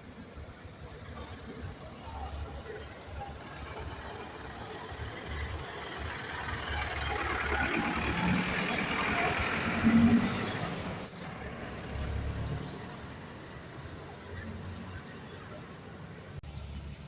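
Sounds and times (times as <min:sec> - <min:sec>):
bus driving past: 0:00.0 - 0:17.0.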